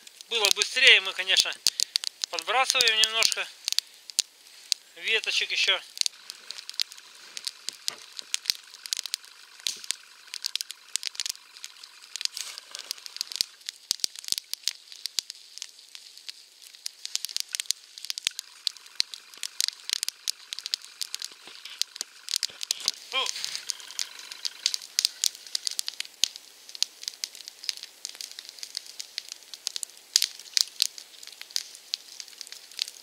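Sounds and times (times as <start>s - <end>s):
campfire crackling and popping: 0.0s - 33.0s
fire hiss: 0.0s - 33.0s.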